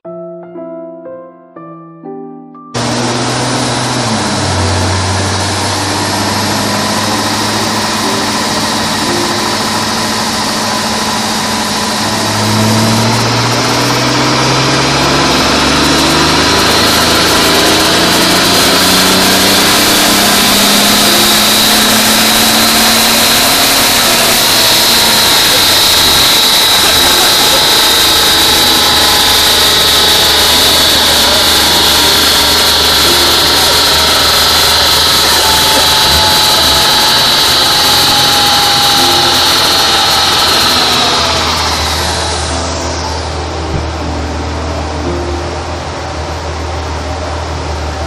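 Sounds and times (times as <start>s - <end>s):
car engine revving on dyno: 2.8s - 48.0s
high whine: 2.8s - 48.0s.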